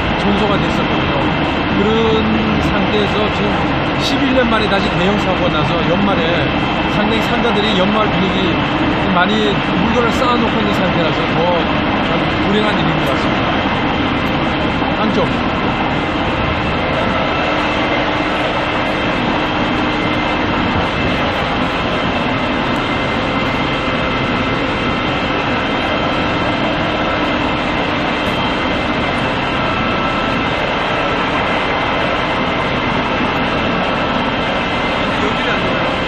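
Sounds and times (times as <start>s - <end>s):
machinery drone with whining: 0.0s - 36.0s.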